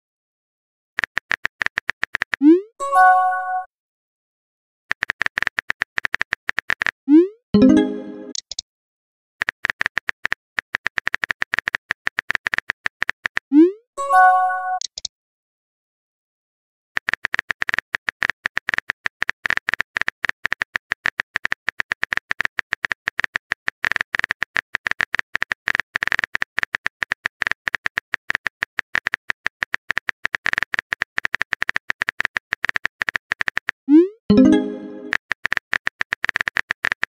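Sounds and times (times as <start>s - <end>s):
keyboard typing clicks: 1.0s - 3.7s, 4.9s - 7.0s, 7.6s - 8.6s, 9.4s - 13.4s, 14.5s - 15.1s, 17.0s - 37.0s.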